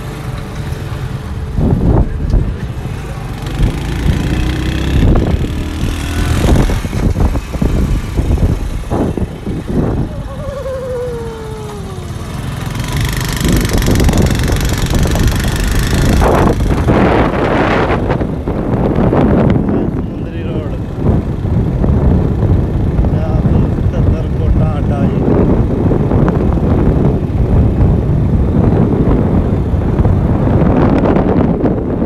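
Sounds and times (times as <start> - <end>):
motorcycle engines rumbling: 0.0 - 32.0
passing vehicle: 0.0 - 32.0.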